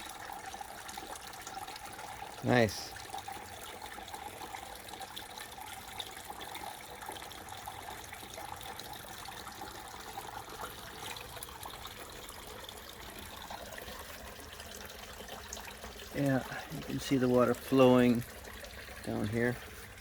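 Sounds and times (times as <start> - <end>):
waterfall trickling into pond: 0.0 - 20.0.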